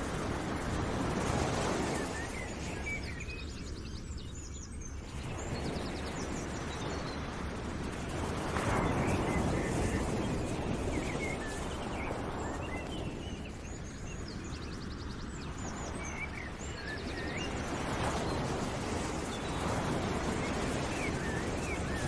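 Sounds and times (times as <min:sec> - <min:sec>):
rushing outdoor ambience: 0:00.0 - 0:22.0.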